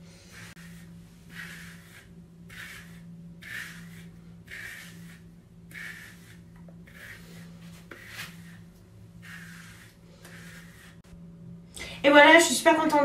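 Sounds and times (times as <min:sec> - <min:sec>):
steady low hum: 0:00.0 - 0:13.0
hairbrush brushing through hair: 0:00.3 - 0:11.0.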